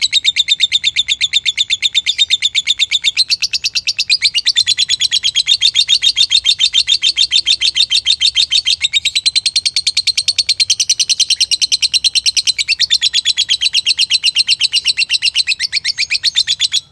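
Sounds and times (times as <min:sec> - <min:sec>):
lovebird chattering trill: 0:00.0 - 0:16.9.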